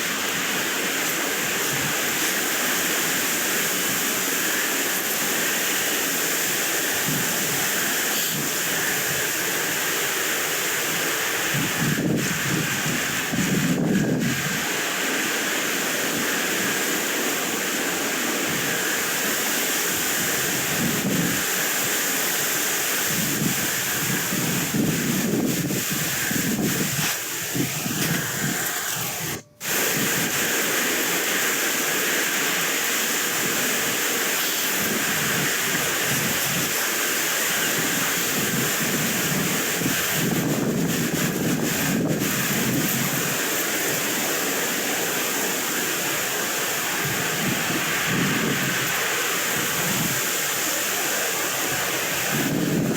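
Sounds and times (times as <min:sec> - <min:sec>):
wind blowing across microphone: 0:00.0 - 0:52.9.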